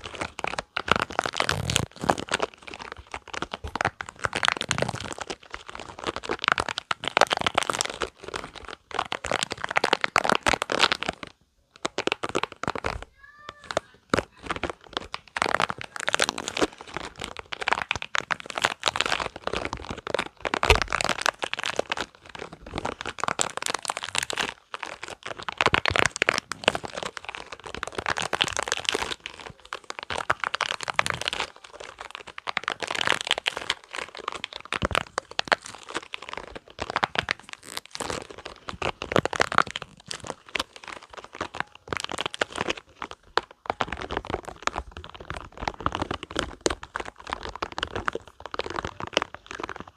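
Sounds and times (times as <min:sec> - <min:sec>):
rubber balls crackling: 0:00.0 - 0:49.9.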